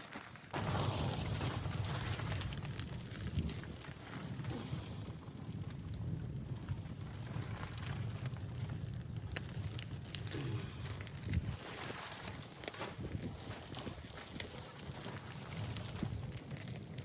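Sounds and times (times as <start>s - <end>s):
sharp crackles and clicks: 0.0s - 17.0s.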